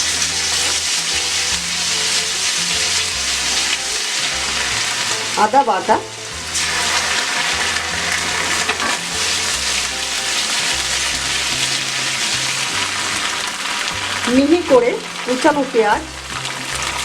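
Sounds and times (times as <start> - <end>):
low background music: 0.0 - 17.0
paste sizzling in hot oil: 0.0 - 17.0.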